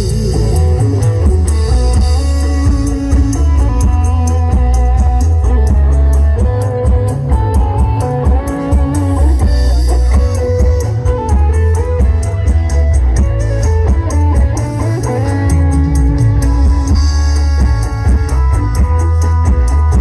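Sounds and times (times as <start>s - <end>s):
loud bass-heavy music over speakers: 0.0s - 20.0s.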